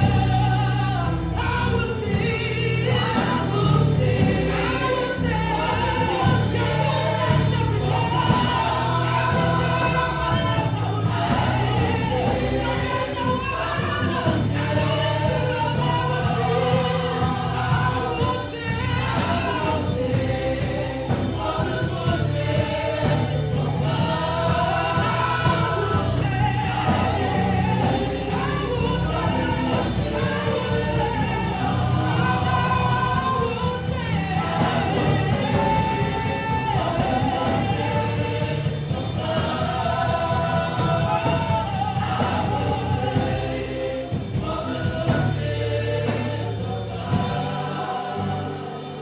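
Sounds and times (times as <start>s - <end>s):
group of voices singing: 0.0s - 49.0s
instrumental accompaniment: 0.0s - 49.0s.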